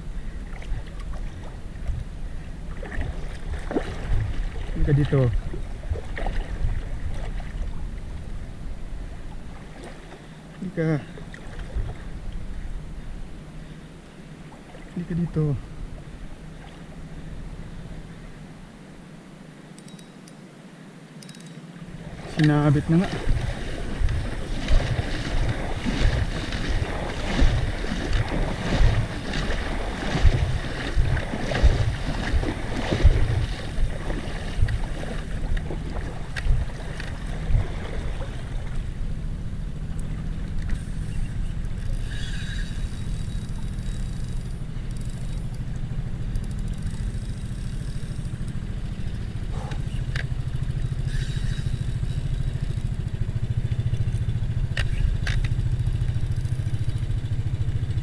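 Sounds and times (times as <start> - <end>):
motorboat engine droning: 0.0 - 58.0.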